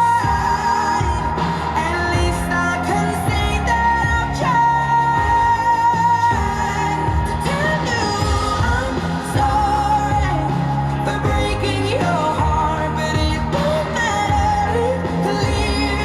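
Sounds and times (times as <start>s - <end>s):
pop song with singer: 0.0s - 16.0s.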